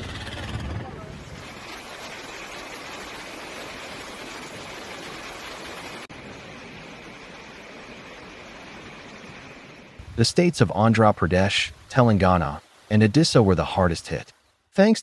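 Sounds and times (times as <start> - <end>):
rushing water: 1.0 - 14.4.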